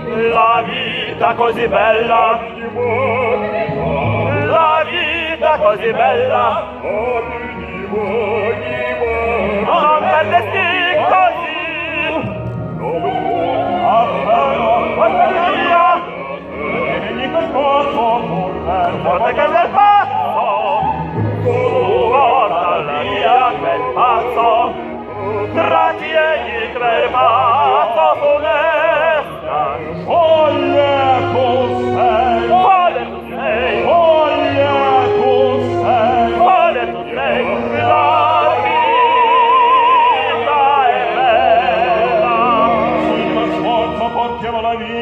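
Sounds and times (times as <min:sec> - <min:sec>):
opera voices singing with vibrato: 0:00.0 - 0:45.0.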